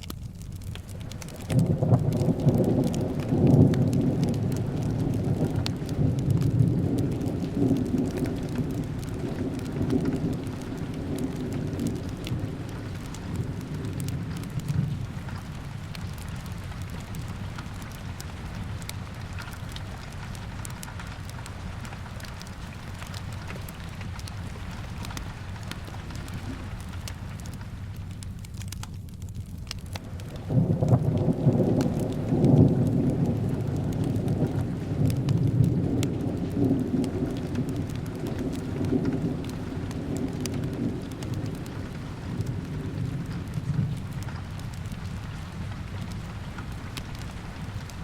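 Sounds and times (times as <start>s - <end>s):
steady rain: 0.0s - 48.0s
thunder rumbling: 0.3s - 48.0s.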